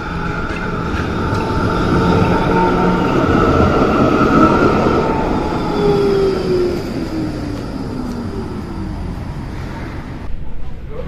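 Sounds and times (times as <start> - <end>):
electric tram drive whining: 0.0 - 10.4
wheels rumbling on rail: 0.0 - 11.0.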